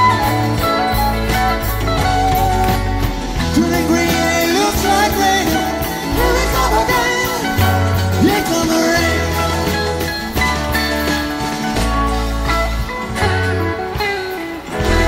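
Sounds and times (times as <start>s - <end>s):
low bass notes: 0.0s - 14.0s, 14.7s - 15.0s
electric guitar lead with bends: 0.0s - 15.0s.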